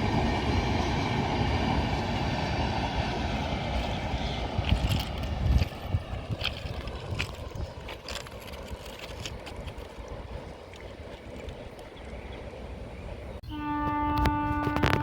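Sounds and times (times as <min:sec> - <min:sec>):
steady low rumble: 0:00.0 - 0:13.4
passing train rumble: 0:00.0 - 0:15.0.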